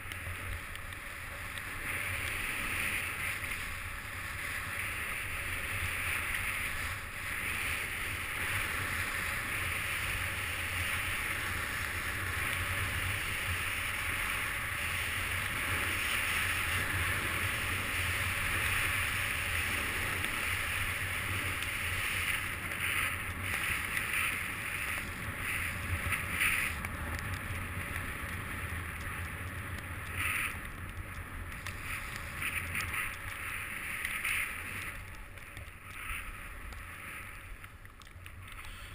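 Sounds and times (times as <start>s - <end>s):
skis sliding on snow: 0.0s - 38.9s.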